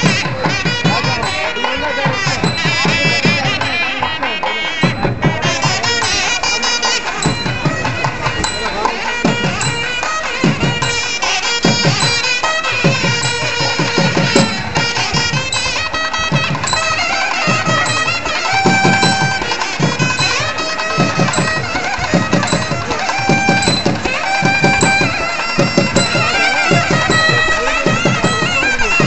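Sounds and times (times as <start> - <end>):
drum strokes in quick runs: 0.0 - 29.0
reed instrument melody: 0.0 - 29.0.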